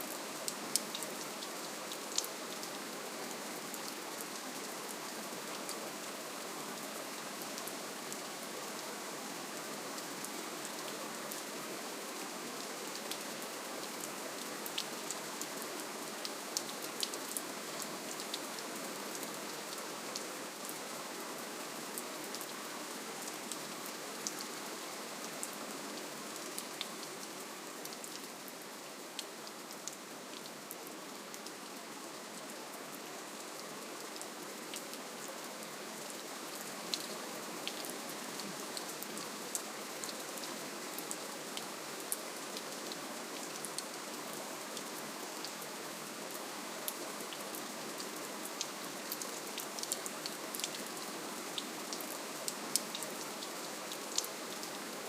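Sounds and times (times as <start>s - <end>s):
gentle rain hiss: 0.0s - 55.0s.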